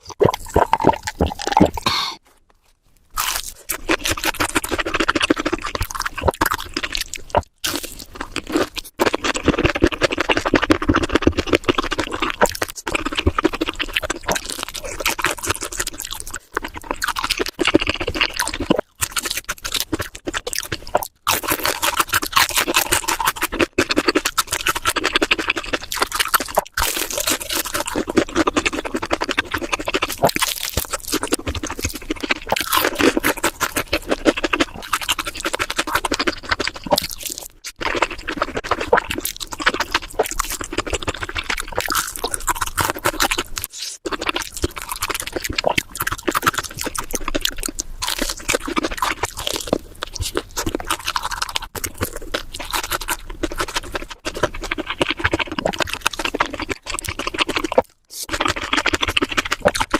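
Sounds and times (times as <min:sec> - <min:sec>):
wet chewing and mouth smacking: 0:00.0 - 0:02.2, 0:03.0 - 0:59.9.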